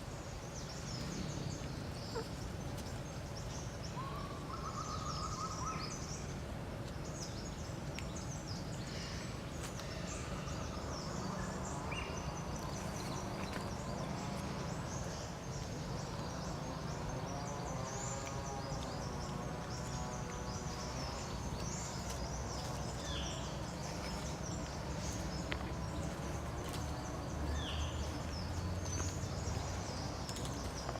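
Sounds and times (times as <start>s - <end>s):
insect noise: 0.0s - 30.9s.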